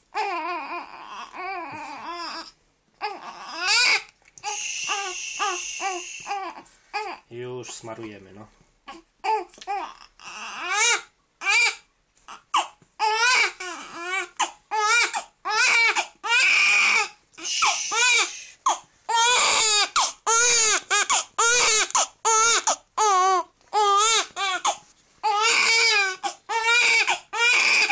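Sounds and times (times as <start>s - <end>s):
baby crying: 0.1s - 7.3s, 8.9s - 27.9s.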